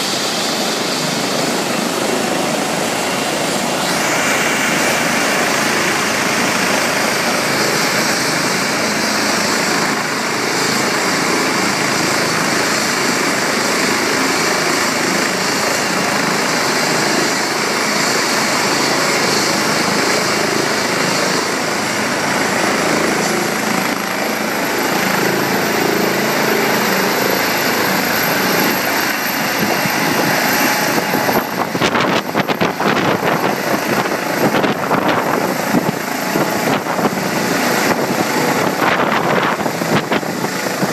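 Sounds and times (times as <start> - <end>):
helicopter rotor running: 0.0 - 40.9
high turbine whine: 0.0 - 40.9.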